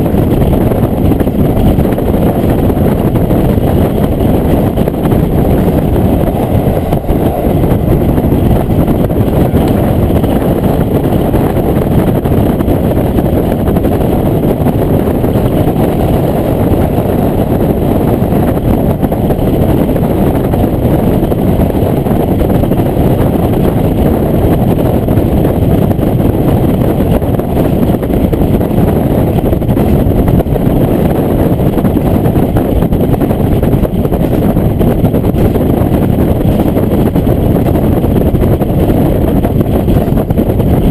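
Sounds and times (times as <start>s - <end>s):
railcar engine and running noise: 0.0s - 40.9s.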